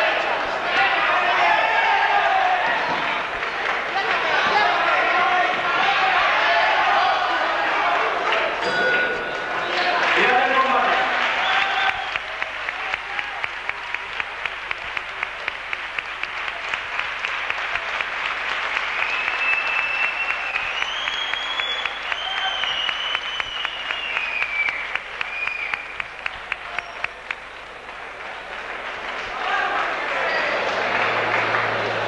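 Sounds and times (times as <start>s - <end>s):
rhythmic clapping: 2.8s - 6.0s, 8.1s - 32.0s.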